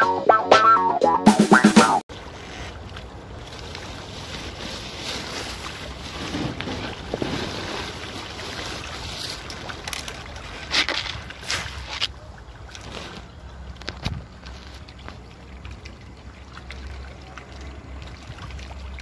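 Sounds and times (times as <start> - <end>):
fish splashing at water surface: 2.1 - 19.0.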